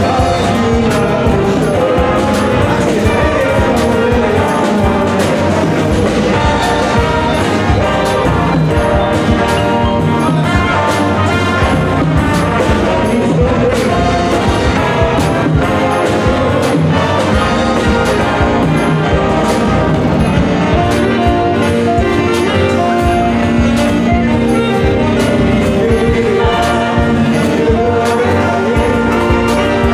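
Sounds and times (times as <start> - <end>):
big band playing: 0.0 - 29.9
drum kit beat: 0.0 - 29.9.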